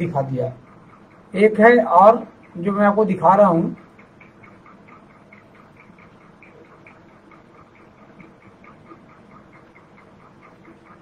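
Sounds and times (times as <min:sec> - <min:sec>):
faint regular ticking: 0:00.0 - 0:11.0.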